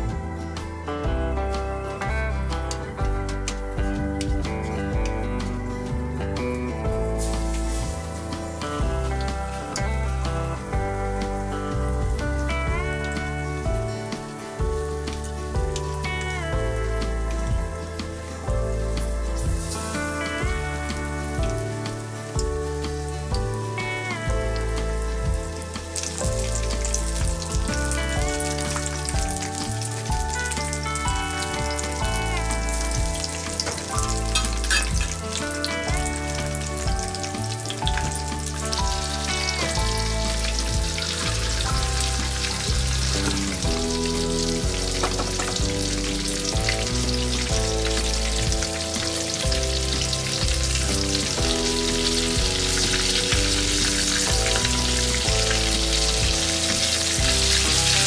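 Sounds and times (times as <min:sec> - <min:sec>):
background music with bass: 0:00.0 - 0:58.0
chicken deep-frying in oil: 0:00.0 - 0:58.0.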